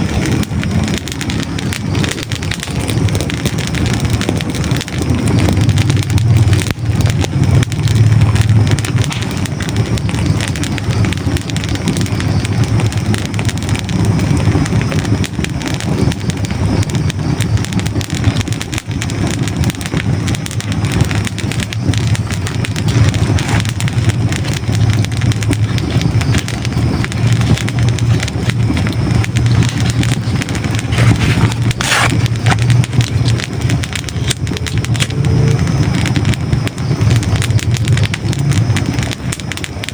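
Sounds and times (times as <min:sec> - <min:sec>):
fire roaring: 0:00.0 - 0:39.9
logs crackling and popping: 0:00.0 - 0:39.9.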